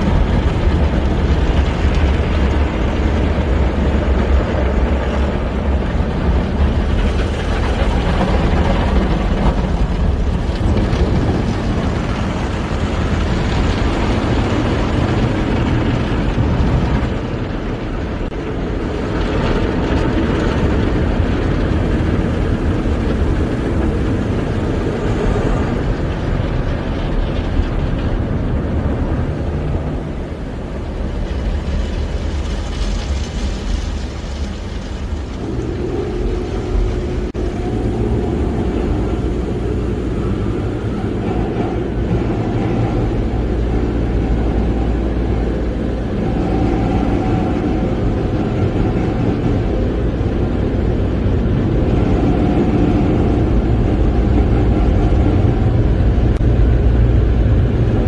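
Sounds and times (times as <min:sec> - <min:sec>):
water spraying on car: 0:00.0 - 0:57.8
car wash machinery rumble: 0:00.0 - 0:58.0.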